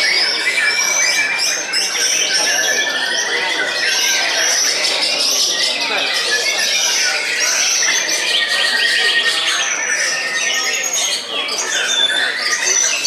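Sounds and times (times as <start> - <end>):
songbirds chorus singing: 0.0 - 13.0.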